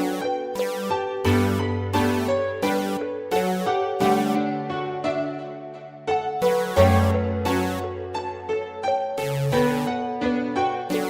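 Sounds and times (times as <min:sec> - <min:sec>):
ambient electronic music: 0:00.0 - 0:11.0.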